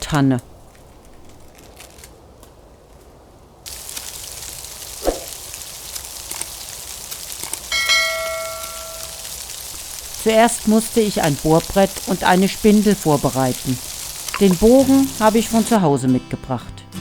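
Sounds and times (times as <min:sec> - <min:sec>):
rain pattering and dripping: 0:00.0 - 0:16.0.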